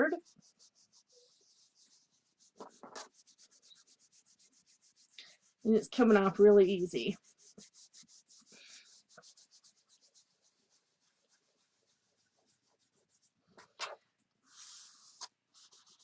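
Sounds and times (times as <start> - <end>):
eraser rubbing on chalkboard: 0.0 - 13.4, 14.5 - 16.0.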